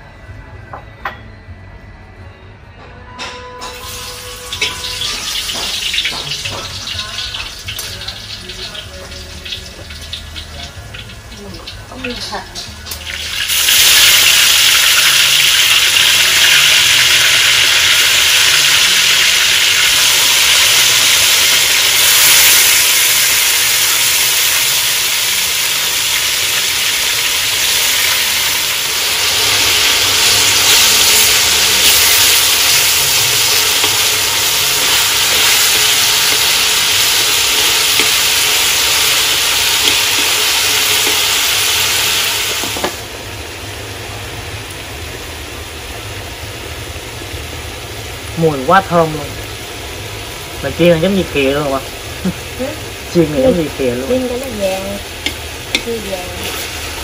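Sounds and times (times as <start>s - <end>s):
meat sizzling in a wok: 3.8s - 57.0s.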